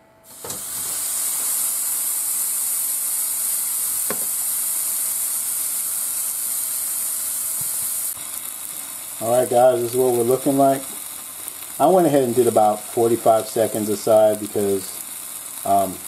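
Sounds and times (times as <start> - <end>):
steak sizzling on grill: 0.2 - 16.0.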